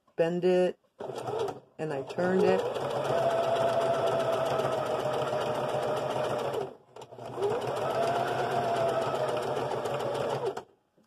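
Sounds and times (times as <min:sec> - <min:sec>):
electric sewing machine stitching: 0:01.0 - 0:10.7.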